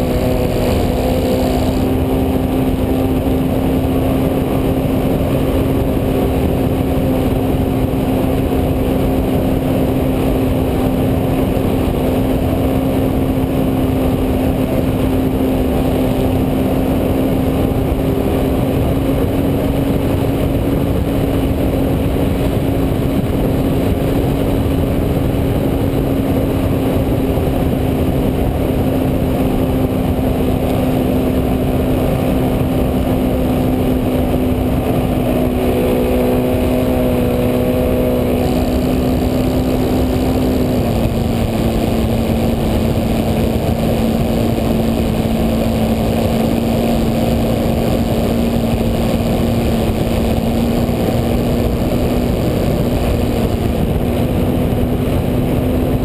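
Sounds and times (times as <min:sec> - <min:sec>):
model plane motor and propeller drone: 0:00.0 - 0:56.0
wind rushing over camera: 0:00.0 - 0:56.0.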